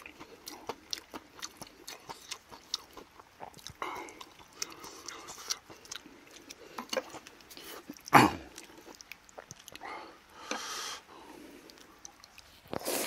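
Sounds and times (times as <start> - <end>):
chewing with mouth noises: 0.0 - 13.0.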